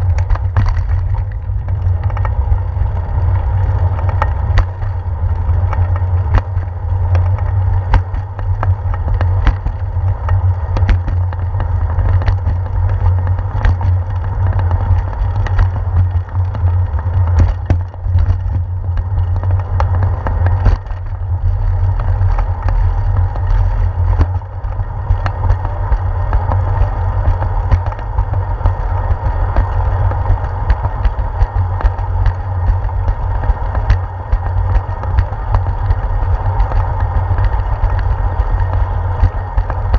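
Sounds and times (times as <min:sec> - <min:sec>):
bicycle knocks and rattles: 0:00.0 - 0:39.9
road rumble: 0:00.0 - 0:39.9
wind buffeting microphone: 0:00.0 - 0:39.9.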